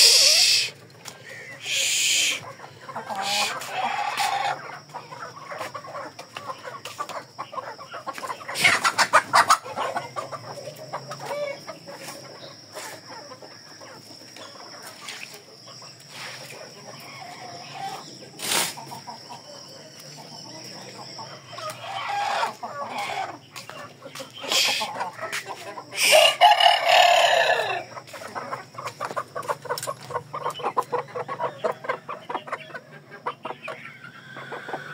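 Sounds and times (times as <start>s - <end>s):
chicken squawk: 0.0s - 14.1s, 16.2s - 19.7s, 21.0s - 34.9s
chickens clucking: 0.0s - 34.9s.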